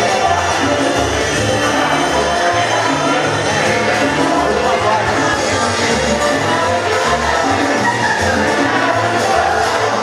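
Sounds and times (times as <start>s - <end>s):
latin dance music: 0.0s - 10.0s
repeating bass line: 0.0s - 10.0s.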